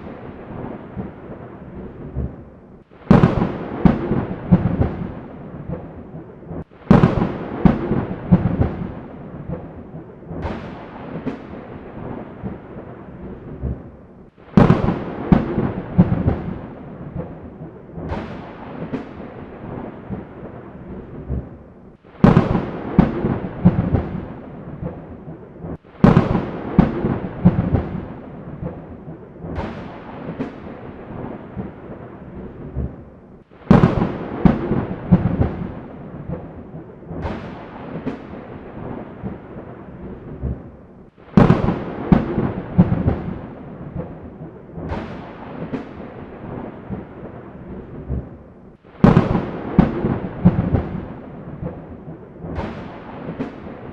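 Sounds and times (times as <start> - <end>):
steady rain: 0.0 - 53.9
thunderclaps with rolling rumble: 0.0 - 53.9.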